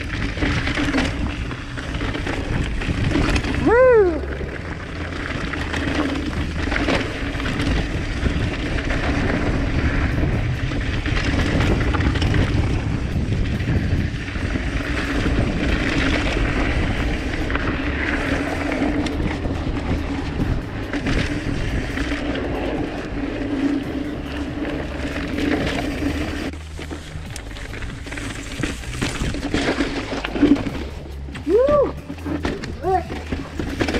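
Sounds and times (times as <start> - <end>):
bike rattling: 0.0 - 33.9
tyres rolling over dirt and rock: 0.0 - 33.9
wind on microphone: 0.0 - 33.9.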